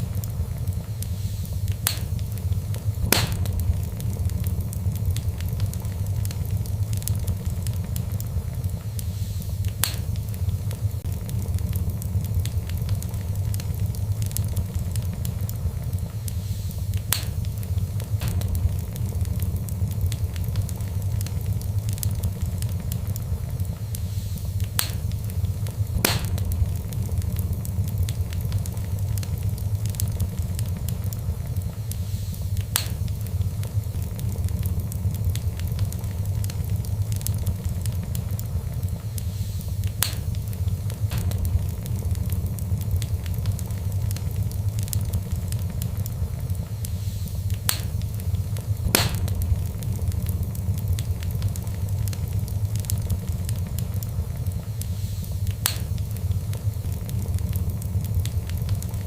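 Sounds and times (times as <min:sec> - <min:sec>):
fireplace fire crackling: 0:00.0 - 0:59.0
low rumble: 0:00.0 - 0:59.0.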